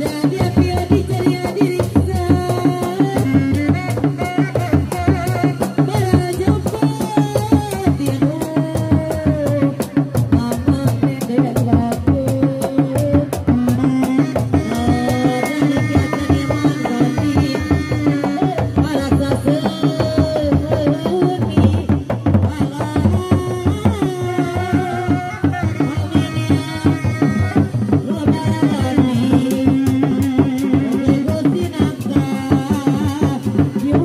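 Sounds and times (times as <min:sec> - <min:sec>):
hand drums in fast rhythm: 0:00.0 - 0:34.0.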